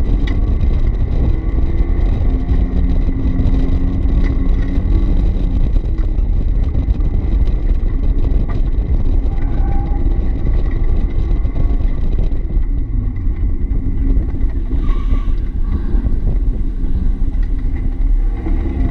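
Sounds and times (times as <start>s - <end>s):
car engine running low rumble: 0.0s - 18.9s.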